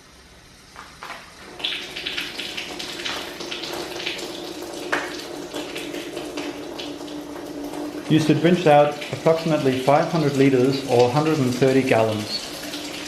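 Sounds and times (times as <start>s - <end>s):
water spitting and gushing from valve: 0.0s - 13.0s.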